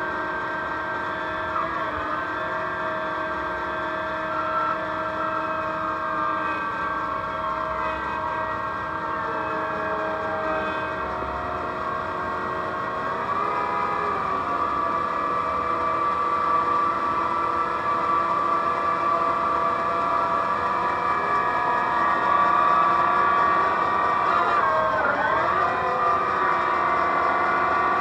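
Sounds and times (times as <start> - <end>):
high whine: 0.0 - 28.0
tractor diesel engine running: 0.0 - 28.0.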